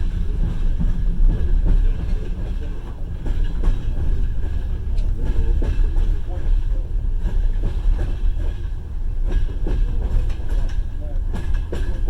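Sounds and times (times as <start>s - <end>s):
train rumble from inside carriage: 0.0s - 12.0s.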